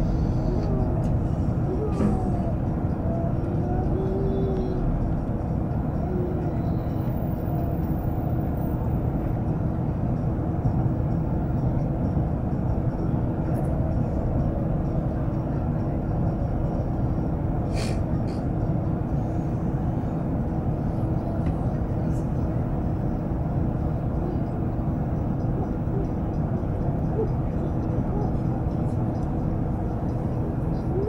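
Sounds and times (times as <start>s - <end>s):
train rumbling at speed: 0.0s - 31.0s.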